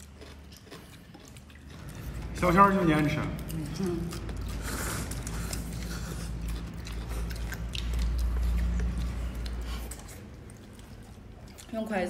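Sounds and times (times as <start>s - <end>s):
steady low hum: 0.0s - 12.0s
people slurping noodles: 0.9s - 11.8s.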